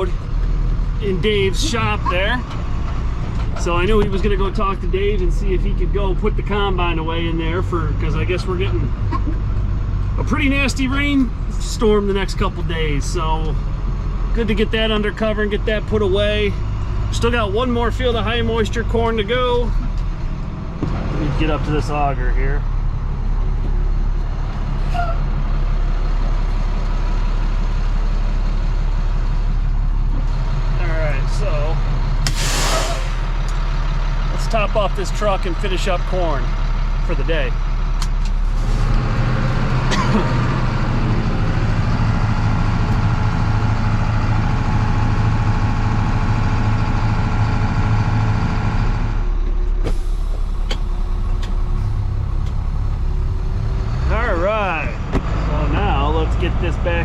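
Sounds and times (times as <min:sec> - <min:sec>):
engine droning under load: 0:00.0 - 0:57.0.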